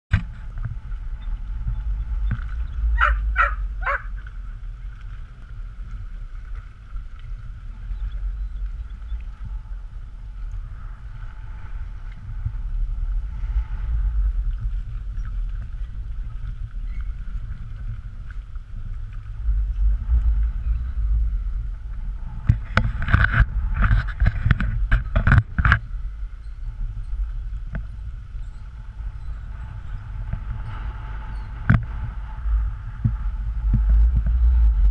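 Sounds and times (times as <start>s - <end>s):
faint steady hum: 0.1s - 34.9s
wind rumbling on microphone: 0.1s - 34.9s.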